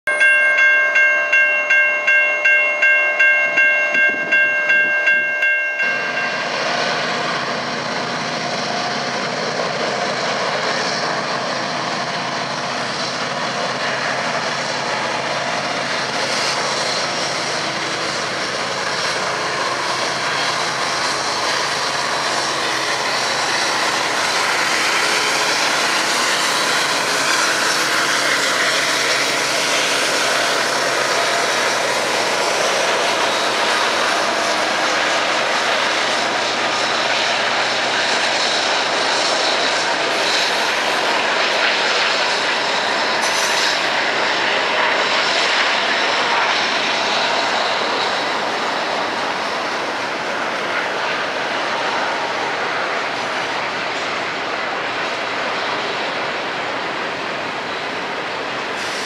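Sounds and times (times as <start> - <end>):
railroad crossing bell ringing: 0.1 - 11.4, 12.0 - 51.4
freight train passing: 0.1 - 59.0.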